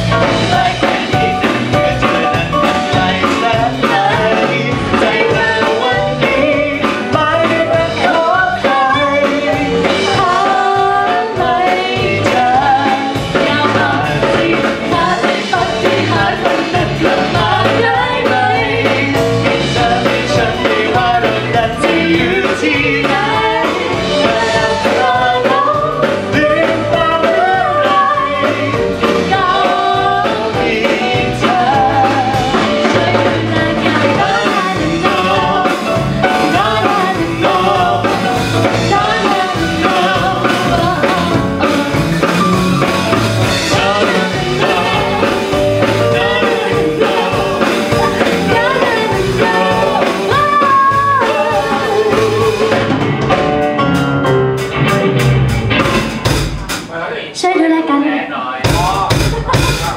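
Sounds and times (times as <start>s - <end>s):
electric bass guitar: 0.0s - 10.4s, 12.0s - 56.8s
man and woman singing duet: 0.0s - 53.1s
keyboard: 0.0s - 56.7s
drum kit: 0.0s - 57.1s, 58.6s - 59.9s.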